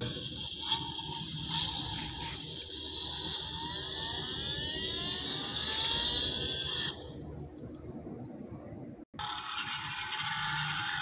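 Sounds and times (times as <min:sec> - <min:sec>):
toy car engine revving effect: 0:00.0 - 0:07.1, 0:09.2 - 0:11.0.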